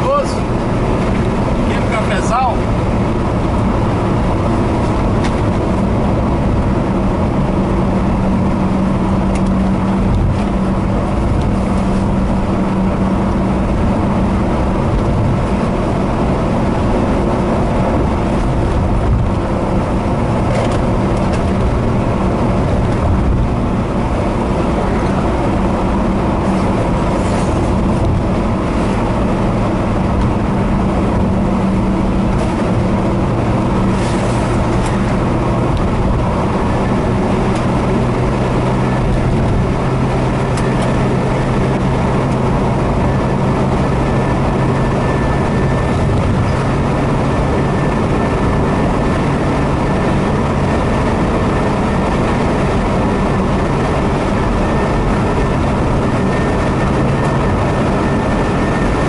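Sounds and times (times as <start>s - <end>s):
car engine drone: 0.0s - 59.0s
road noise: 0.0s - 59.0s.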